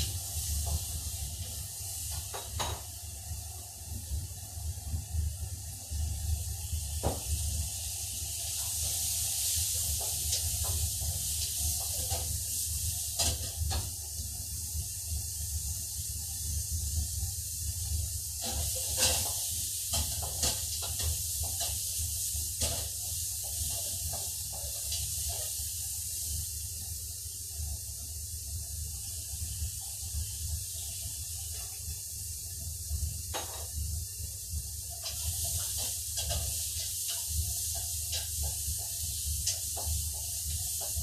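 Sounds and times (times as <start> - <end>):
chicken sizzling in a pan: 0.0 - 41.0.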